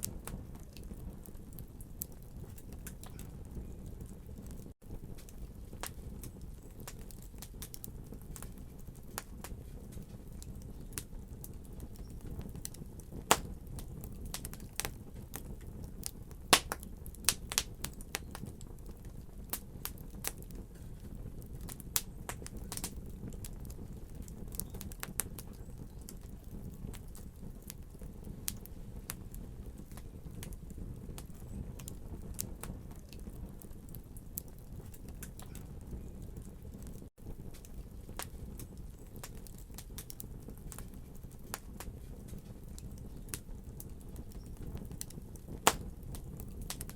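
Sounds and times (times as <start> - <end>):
fire crackling and popping: 0.0 - 46.9
low rush of flame: 0.0 - 46.9.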